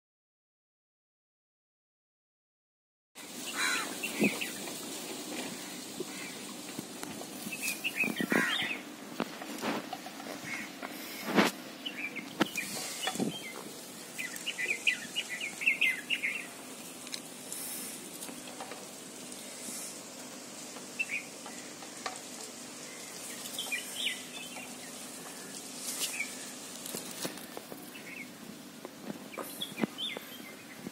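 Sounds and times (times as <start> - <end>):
small birds chirping: 3.2 - 30.9.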